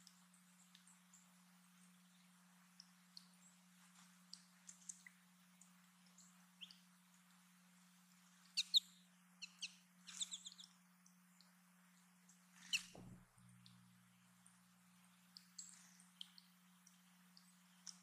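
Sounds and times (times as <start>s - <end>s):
faint low hum: 0.0s - 18.0s
songbirds chirping: 0.0s - 18.0s.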